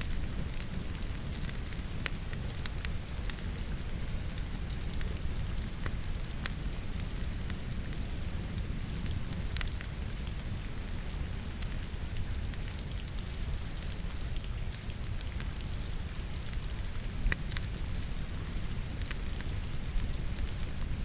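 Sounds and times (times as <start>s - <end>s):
logs crackling in fireplace: 0.0s - 21.0s
rain falling: 0.0s - 21.0s.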